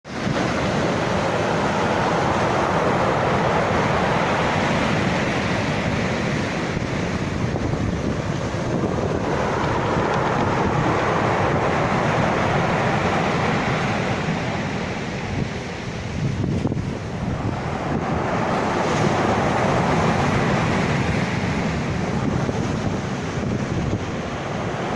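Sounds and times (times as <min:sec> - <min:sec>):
sea waves breaking: 0:00.0 - 0:24.9.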